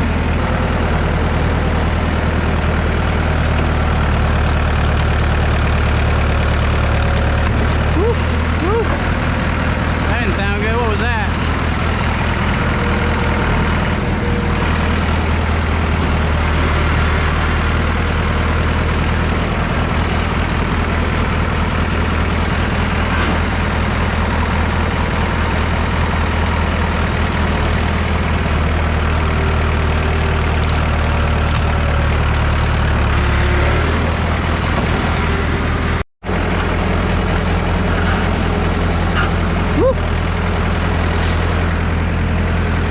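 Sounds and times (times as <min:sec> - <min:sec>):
tractor engine droning: 0:00.0 - 0:42.9.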